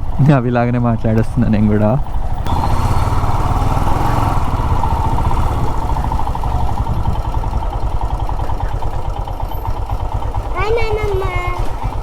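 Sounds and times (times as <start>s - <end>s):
motorcycle engine running: 1.7s - 12.0s.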